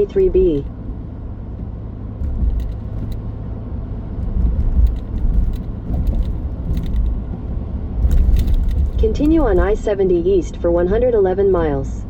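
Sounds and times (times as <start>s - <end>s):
faint rattles: 0.0s - 10.0s
road and engine rumble: 0.0s - 12.0s.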